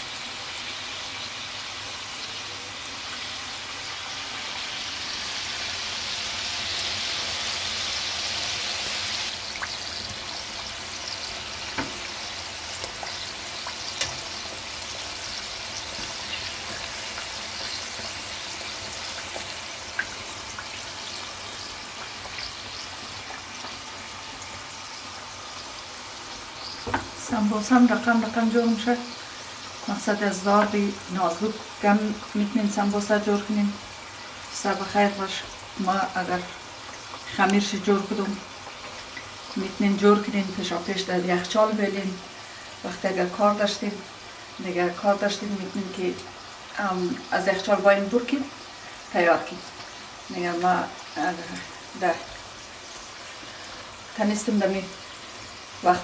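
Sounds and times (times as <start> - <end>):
deep-frying oil sizzling: 0.0 - 56.0.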